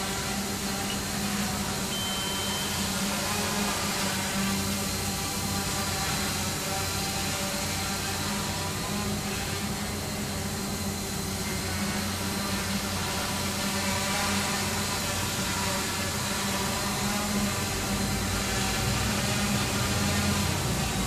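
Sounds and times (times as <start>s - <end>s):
drone motors buzzing: 0.0s - 21.0s.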